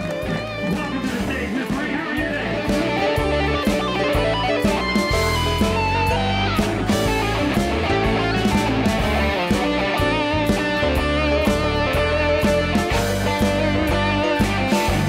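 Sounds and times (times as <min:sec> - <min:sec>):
electric guitar music with bass: 0:00.0 - 0:15.0.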